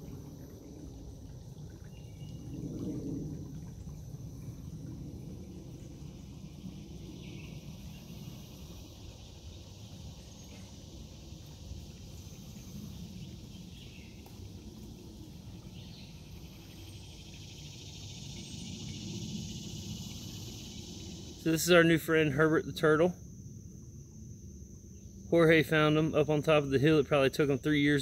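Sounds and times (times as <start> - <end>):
chorus of frogs and insects: 0.0 - 28.0.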